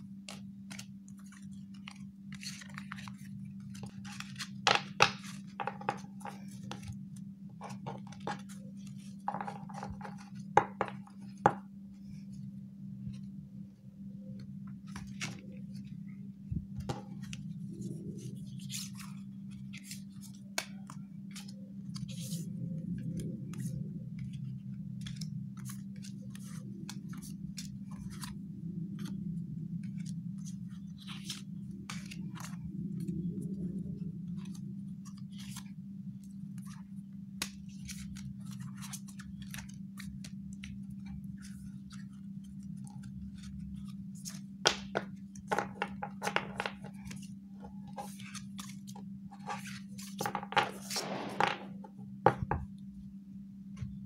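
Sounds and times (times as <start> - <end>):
steady low hum: 0.0 - 45.6
paper cards rustling and flicking: 0.1 - 12.3, 14.2 - 52.6.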